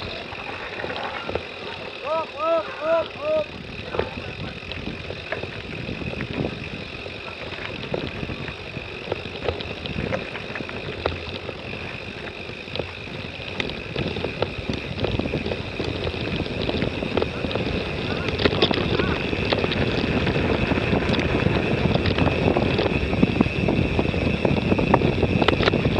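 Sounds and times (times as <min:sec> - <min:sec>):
tyres crunching over stones: 0:00.0 - 0:23.0
bike frame and chain rattling: 0:00.0 - 0:25.9.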